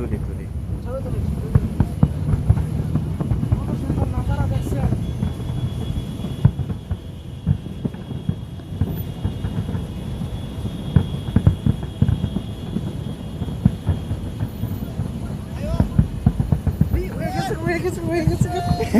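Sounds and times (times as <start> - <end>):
distant fireworks booming: 0.0 - 18.9.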